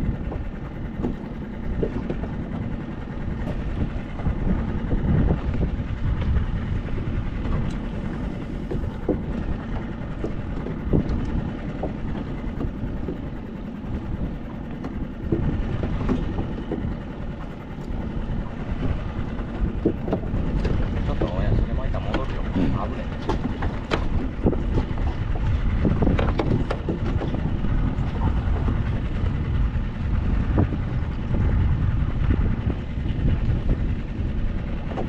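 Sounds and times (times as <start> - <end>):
outboard motor running: 0.0 - 35.0
wind: 0.0 - 35.0.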